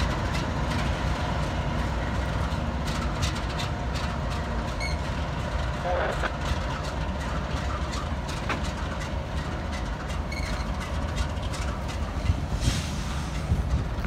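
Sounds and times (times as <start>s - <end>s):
freight train rumbling past: 0.0s - 14.0s
wheels clicking on rails: 0.0s - 14.0s.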